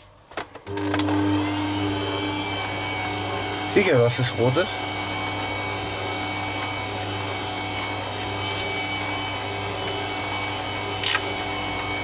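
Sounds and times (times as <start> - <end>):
stand mixer running: 0.7 - 12.0.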